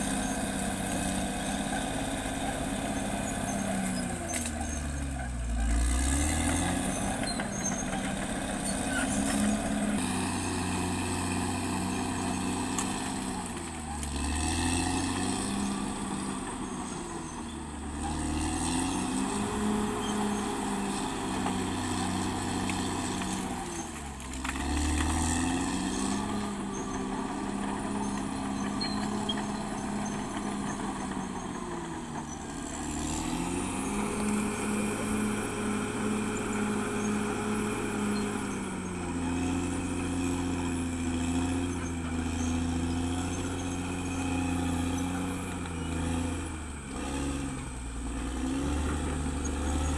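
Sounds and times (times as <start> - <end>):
bulldozer diesel engine revving: 0.0 - 49.9.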